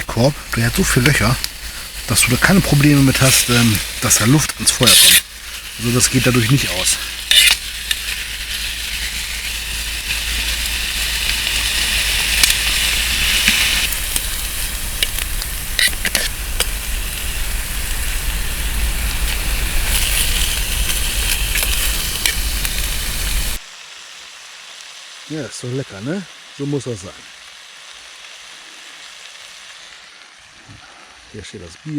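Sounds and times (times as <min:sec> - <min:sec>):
meat sizzling in a pan: 0:00.0 - 0:31.9
sharp pops and crackles: 0:00.0 - 0:31.9.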